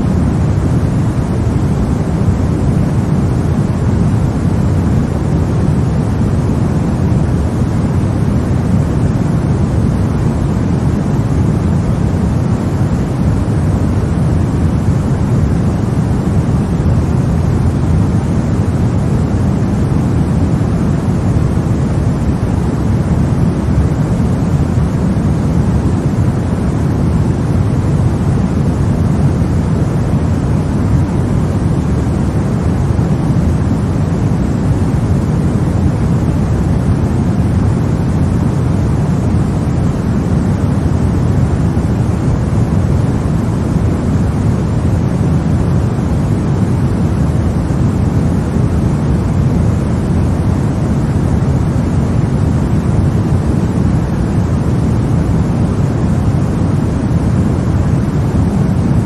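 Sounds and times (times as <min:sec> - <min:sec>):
steady low hiss-like rumble: 0:00.0 - 0:59.0.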